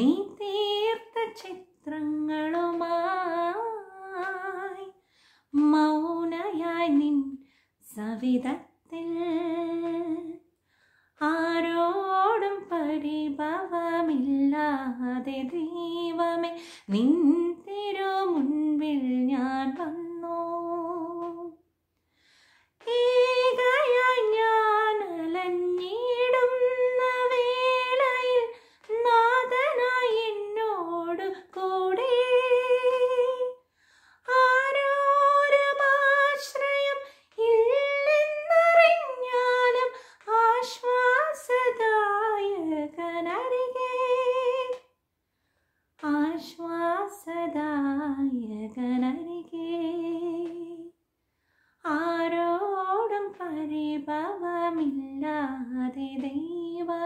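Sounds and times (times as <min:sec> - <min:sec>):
woman singing unaccompanied: 0:00.0 - 0:10.4, 0:11.2 - 0:21.6, 0:22.8 - 0:33.6, 0:34.2 - 0:44.9, 0:46.0 - 0:51.0, 0:51.8 - 0:57.0.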